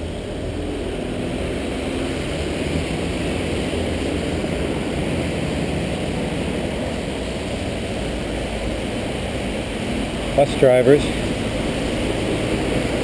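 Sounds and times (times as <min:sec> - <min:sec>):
traffic on wet road: 0:00.0 - 0:13.0.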